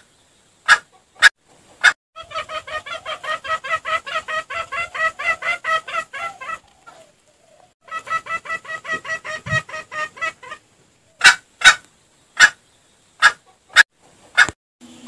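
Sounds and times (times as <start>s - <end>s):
junglefowl lure call clucks: 0.6s - 12.6s, 13.2s - 14.6s.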